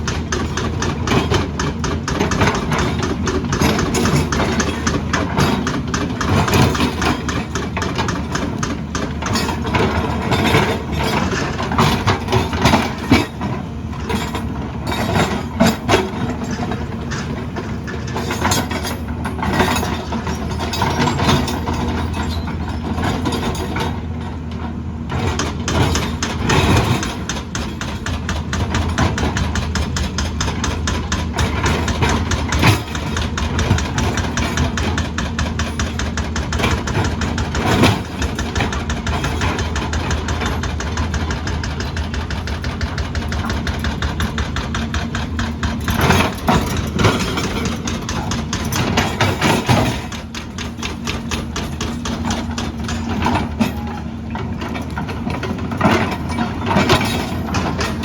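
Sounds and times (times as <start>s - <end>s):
diesel engine clattering: 0.0s - 58.0s.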